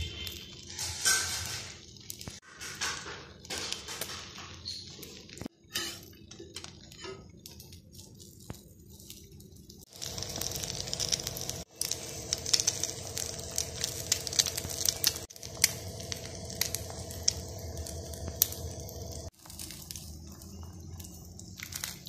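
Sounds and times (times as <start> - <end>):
egg sizzling in a pan: 0.0 - 22.0.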